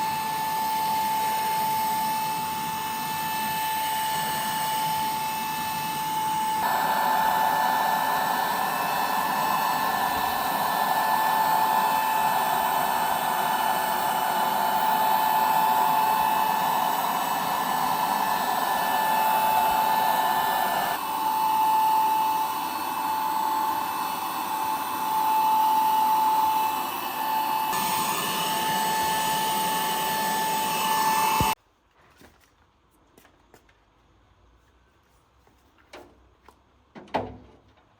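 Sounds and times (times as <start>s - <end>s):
power tool whining: 0.0s - 31.6s.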